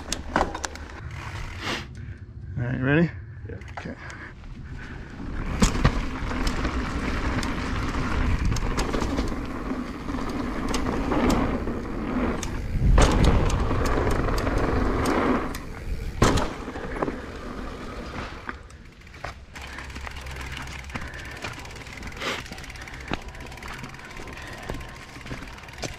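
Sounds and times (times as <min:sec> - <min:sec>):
bike clicking and rattling: 0:00.0 - 0:02.2, 0:03.5 - 0:25.9
bike tyres on dirt and rock: 0:00.0 - 0:02.2, 0:03.5 - 0:25.9.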